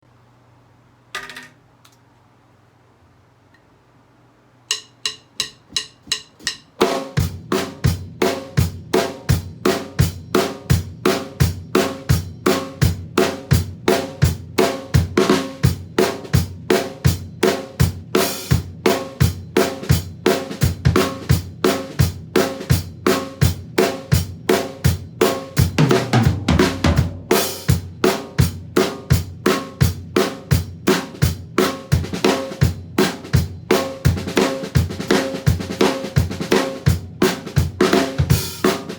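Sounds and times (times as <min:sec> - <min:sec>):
drum kit playing swung groove: 0:04.7 - 0:38.9.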